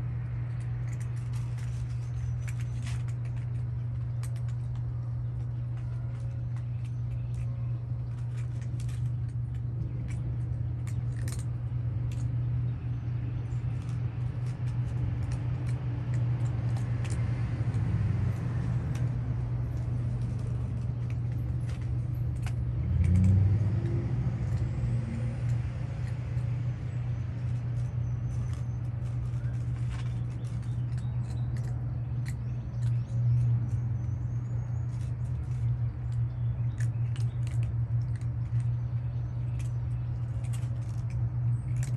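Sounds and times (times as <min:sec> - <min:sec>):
cats chewing food: 0:00.0 - 0:41.9
low mechanical hum: 0:00.0 - 0:41.9.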